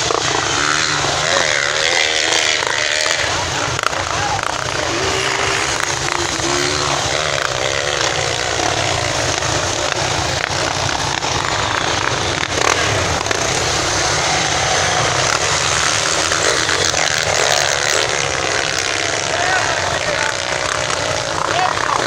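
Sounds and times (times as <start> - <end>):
loud rush of noise: 0.0 - 22.0
motorcycle engines revving: 0.0 - 22.0.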